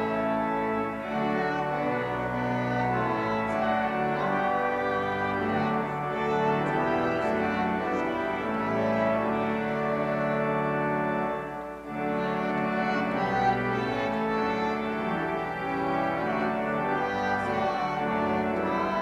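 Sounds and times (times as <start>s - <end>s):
pipe organ playing a hymn: 0.0s - 19.0s.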